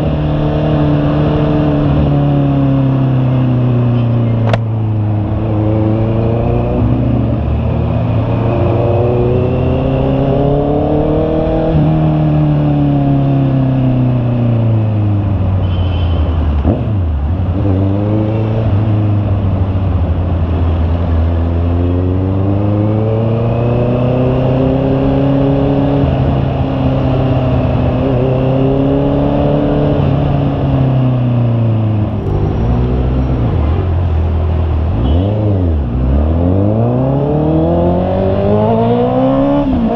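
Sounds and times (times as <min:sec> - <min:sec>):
motorcycle engine accelerating: 0:00.0 - 0:15.5, 0:16.3 - 0:39.9.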